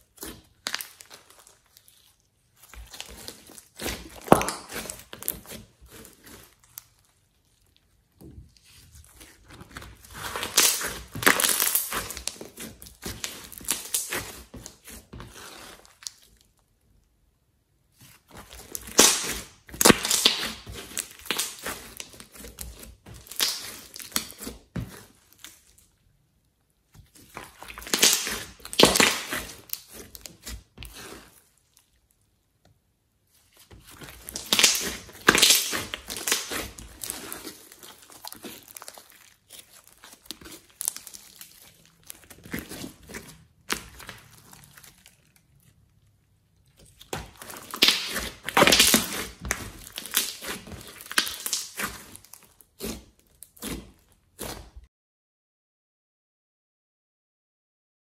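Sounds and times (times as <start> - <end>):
wet slime crackling and popping: 0.0 - 17.3, 17.9 - 32.6, 33.2 - 54.9.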